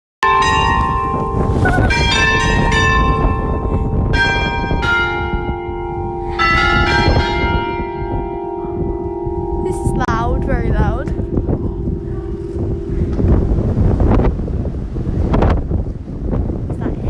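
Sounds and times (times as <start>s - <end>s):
church bells ringing: 0.2s - 15.3s.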